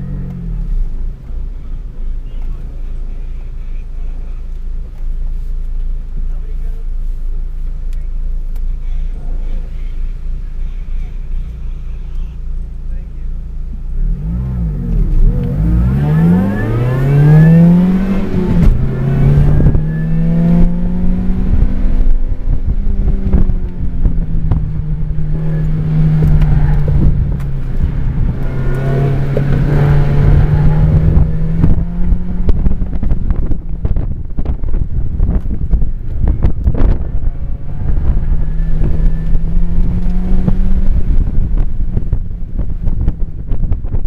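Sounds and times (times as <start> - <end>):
car engine revving: 0.0 - 44.0
low buffeting: 0.0 - 44.0.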